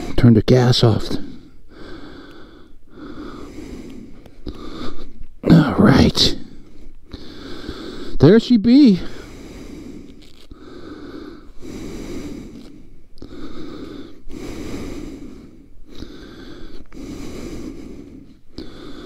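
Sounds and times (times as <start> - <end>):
person breathing in and out: 1.1 - 5.4, 6.4 - 8.2, 9.0 - 19.0.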